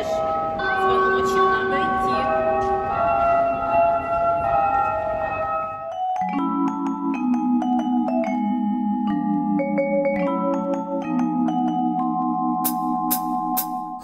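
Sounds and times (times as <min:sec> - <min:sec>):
mallet percussion melody: 0:00.0 - 0:14.0
pulsing chord accompaniment: 0:00.0 - 0:14.0.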